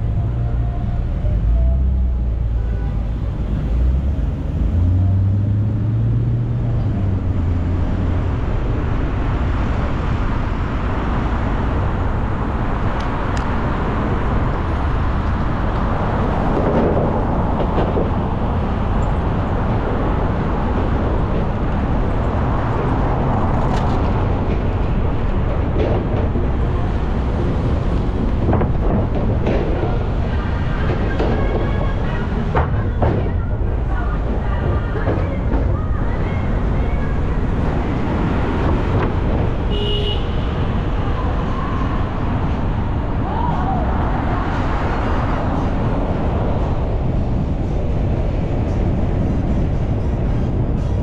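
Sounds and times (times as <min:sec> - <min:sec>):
low engine rumble: 0:00.0 - 0:51.0
road and tyre noise: 0:00.0 - 0:51.0.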